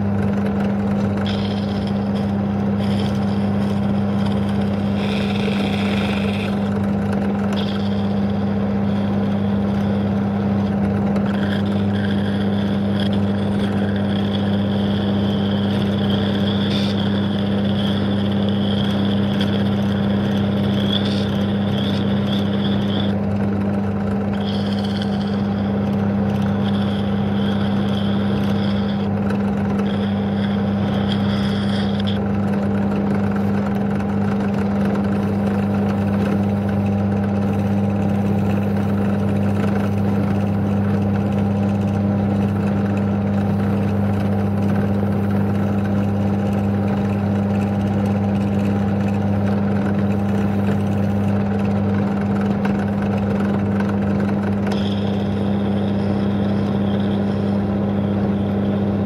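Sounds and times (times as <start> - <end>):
chisel scraping with high whine: 0.0 - 59.0
drill motor humming: 0.0 - 59.0.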